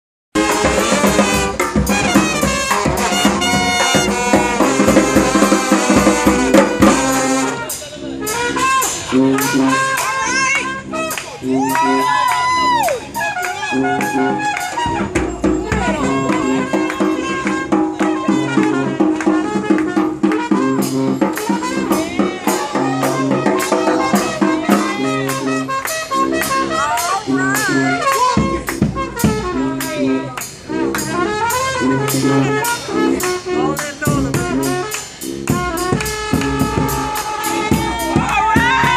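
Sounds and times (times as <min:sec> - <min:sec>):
drum beats: 0:00.4 - 0:38.9
horns playing sustained notes: 0:00.4 - 0:38.9.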